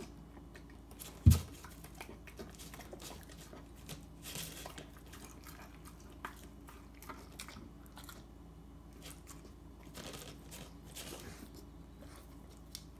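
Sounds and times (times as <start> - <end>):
dog chewing: 0.0 - 12.9.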